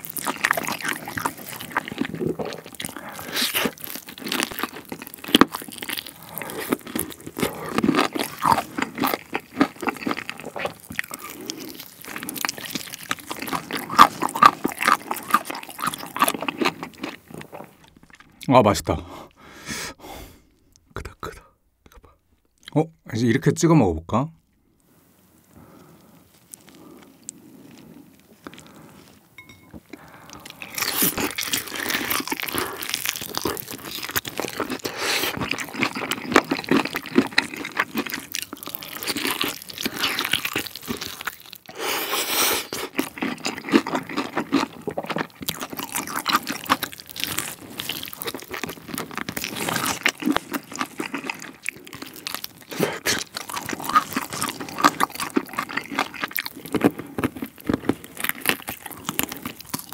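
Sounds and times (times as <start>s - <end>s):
crunching bites and chewing: 0.0s - 18.6s, 26.0s - 59.9s.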